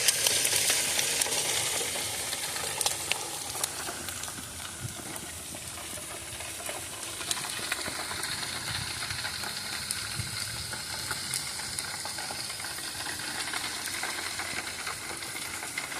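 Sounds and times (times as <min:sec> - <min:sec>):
fat popping and crackling: 0:00.0 - 0:15.9
meat sizzling on a grill: 0:00.0 - 0:15.9.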